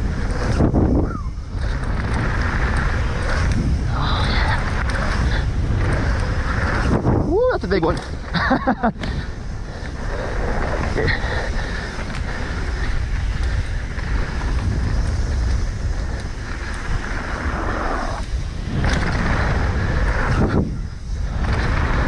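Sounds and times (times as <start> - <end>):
bike tyre roar on dirt: 0.0 - 22.0
wind noise on microphone: 0.0 - 22.0.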